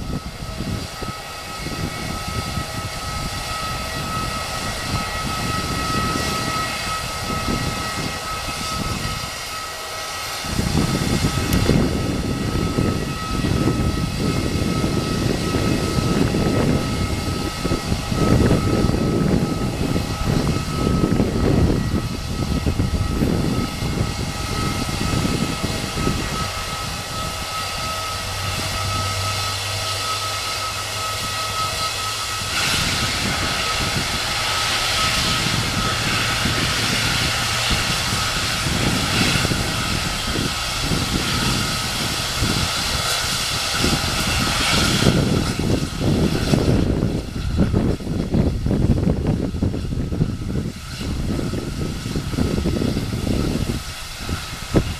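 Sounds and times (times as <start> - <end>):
hiss: 0.0 - 54.9
jet engines whining: 0.0 - 54.9
uneven low rumble: 10.4 - 54.9.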